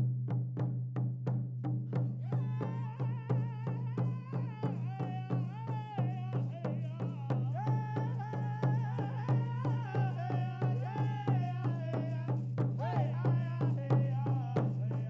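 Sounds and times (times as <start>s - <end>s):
frame drums beating: 1.6s - 15.0s.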